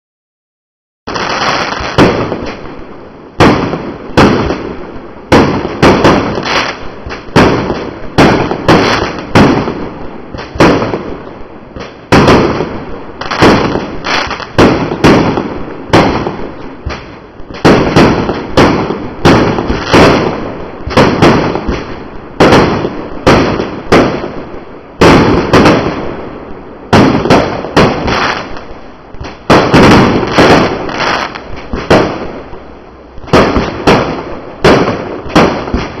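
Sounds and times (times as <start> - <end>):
fireworks exploding with echo: 1.1 - 36.0.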